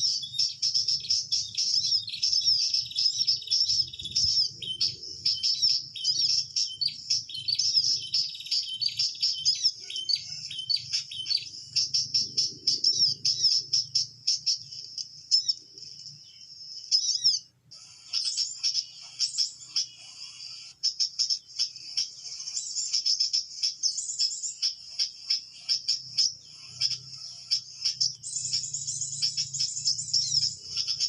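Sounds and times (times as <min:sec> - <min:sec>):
small birds chirping and trilling: 0:00.0 - 0:31.0.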